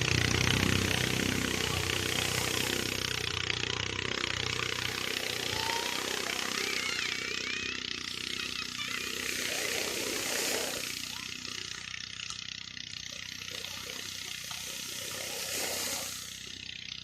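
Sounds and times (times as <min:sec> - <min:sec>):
broad rushing noise: 0:00.0 - 0:12.1, 0:13.2 - 0:16.8
motor humming: 0:00.0 - 0:17.0.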